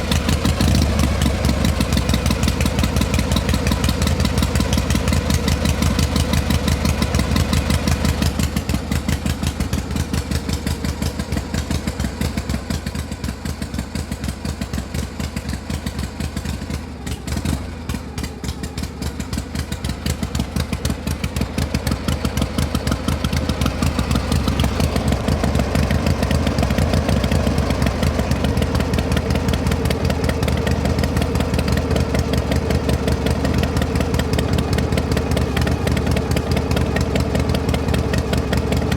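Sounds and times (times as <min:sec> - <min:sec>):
combustion engine running: 0:00.0 - 0:38.9.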